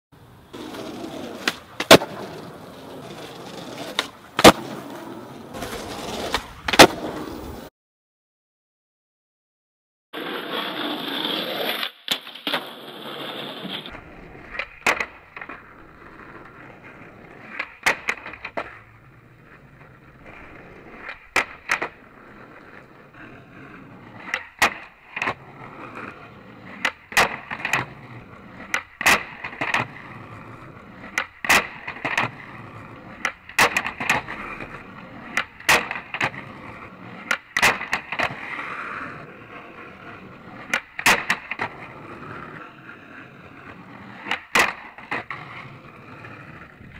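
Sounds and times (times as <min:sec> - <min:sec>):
skateboard rolling on asphalt: 0:00.2 - 0:07.7, 0:10.2 - 0:46.9
skateboard trucks grinding wood: 0:00.3 - 0:07.7, 0:10.2 - 0:46.9
skateboard clacks: 0:00.4 - 0:07.7, 0:10.2 - 0:46.9.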